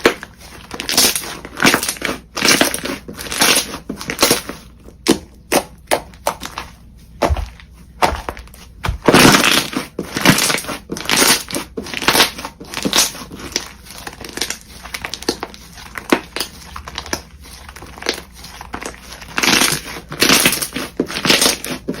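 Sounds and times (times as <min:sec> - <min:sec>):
slime squishing and crackling: 0:00.0 - 0:22.0.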